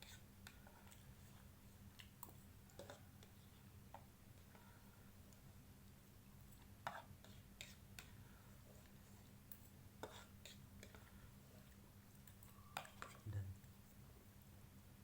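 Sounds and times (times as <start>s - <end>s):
light eating sounds: 0.0s - 14.5s
low steady hum: 0.0s - 15.0s.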